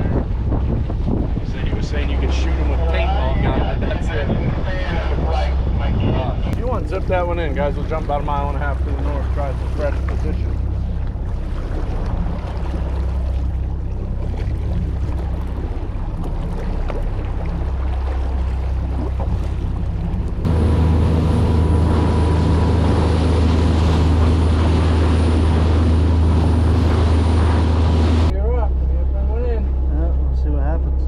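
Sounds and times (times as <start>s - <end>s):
boat engine humming: 0.0s - 31.0s
water noise: 0.0s - 31.0s.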